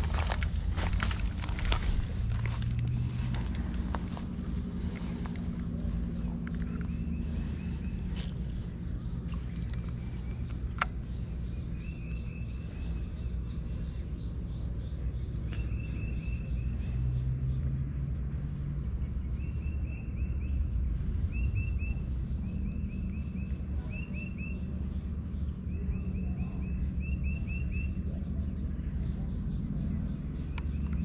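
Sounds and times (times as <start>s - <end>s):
songbird singing: 0.0s - 31.0s
steady low rumble: 0.0s - 31.0s.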